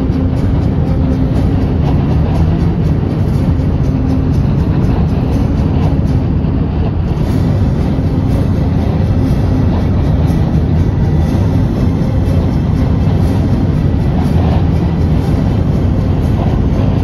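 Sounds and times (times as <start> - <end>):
road noise rumble: 0.0 - 17.0
wind rushing against vehicle: 0.0 - 17.0.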